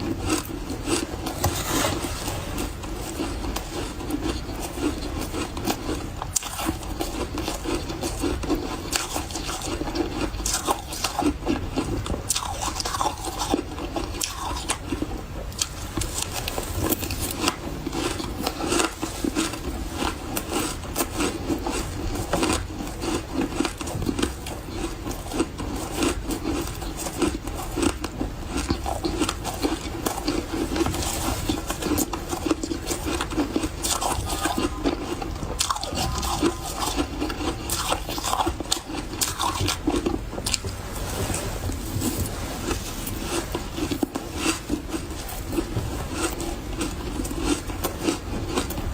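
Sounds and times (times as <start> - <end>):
chewing powdery ice: 0.0 - 48.9.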